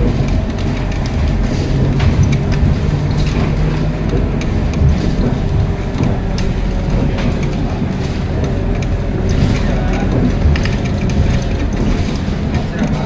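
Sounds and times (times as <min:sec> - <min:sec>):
bus engine low rumble: 0:00.0 - 0:13.0
interior fittings rattling: 0:00.0 - 0:13.0.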